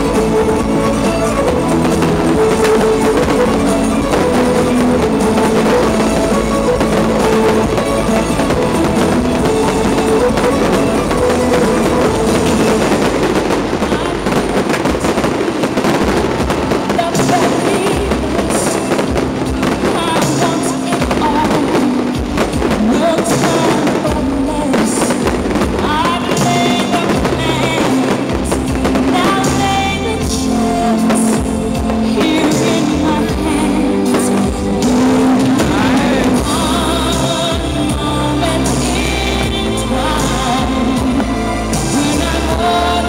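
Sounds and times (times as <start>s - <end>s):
fireworks crackling and banging: 0.0s - 43.0s
music playing: 0.0s - 43.0s
voices: 0.0s - 43.0s.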